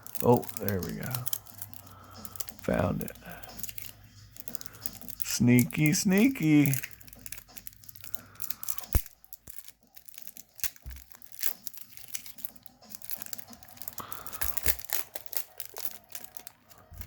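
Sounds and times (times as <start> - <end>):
wrapping being torn open: 0.0 - 17.0.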